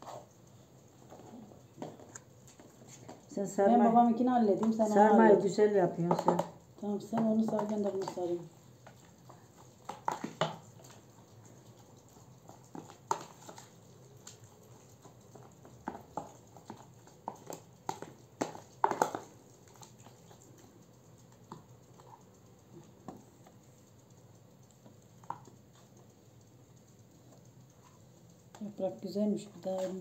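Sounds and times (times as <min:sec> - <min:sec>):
light clicks and taps on trays: 0:00.0 - 0:30.0.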